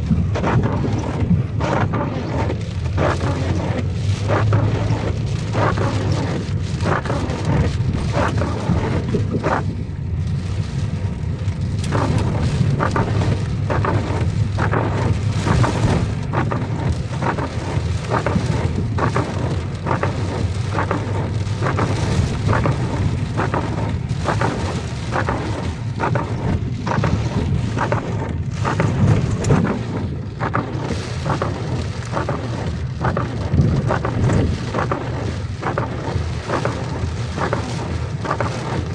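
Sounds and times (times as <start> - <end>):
heavy rain: 0.0 - 38.9
low rumble: 0.0 - 38.9.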